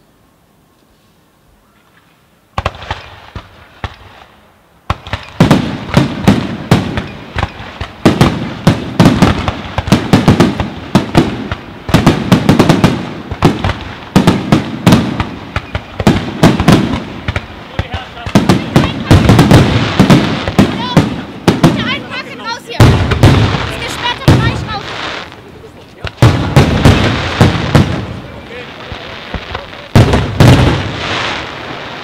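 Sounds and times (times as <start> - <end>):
fireworks bangs: 2.5 - 32.0.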